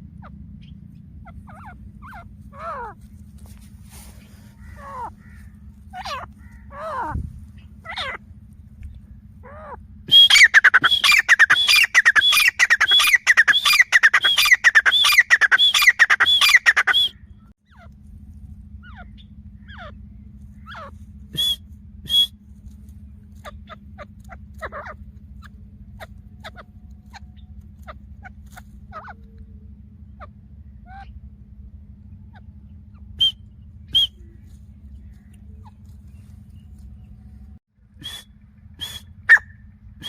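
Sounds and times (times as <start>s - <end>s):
bird calling ringing notes: 0.0s - 3.0s, 4.2s - 17.9s, 18.6s - 22.4s, 23.0s - 40.0s
faint low hum: 0.0s - 40.0s.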